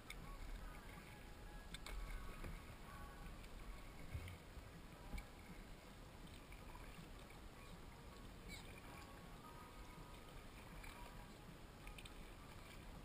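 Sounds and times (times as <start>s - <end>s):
paddle strokes in water: 0.0s - 13.0s.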